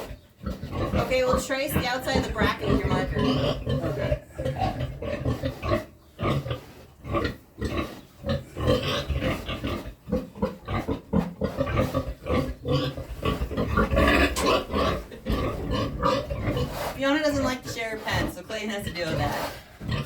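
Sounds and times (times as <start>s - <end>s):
pig grunting: 0.0s - 20.0s.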